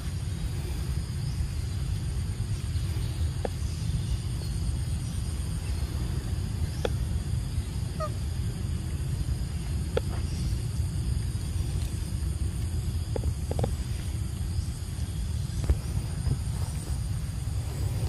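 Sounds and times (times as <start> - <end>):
faint high hum: 0.0 - 18.0
steady low rumble: 0.0 - 18.0.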